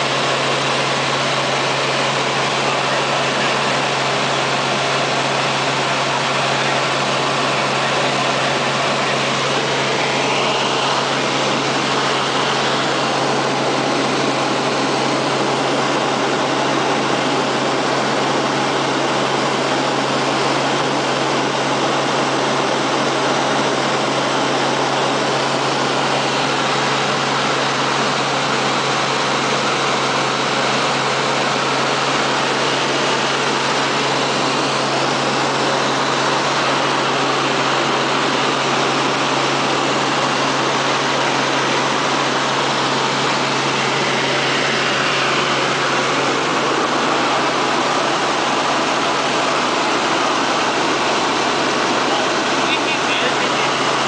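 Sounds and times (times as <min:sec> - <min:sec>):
vehicle engine drone: 0:00.0 - 0:54.0.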